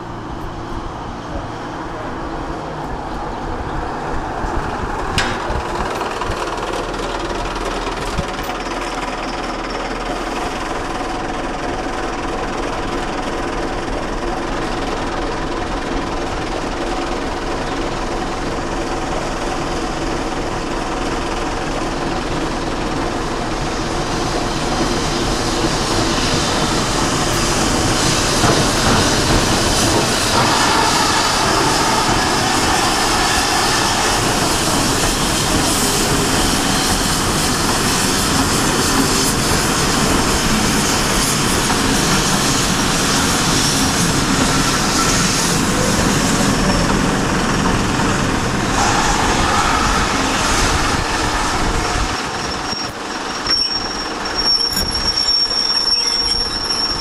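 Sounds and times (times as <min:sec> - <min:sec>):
steam train running past: 0:00.0 - 0:57.0
wheels clickety-clack on rail joints: 0:00.0 - 0:57.0.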